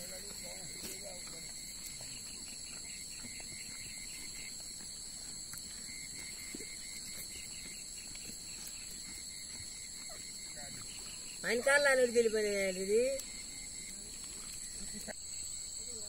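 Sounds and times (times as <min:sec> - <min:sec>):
insects trilling: 0:00.0 - 0:16.0
rapid insect chirping: 0:00.0 - 0:16.0.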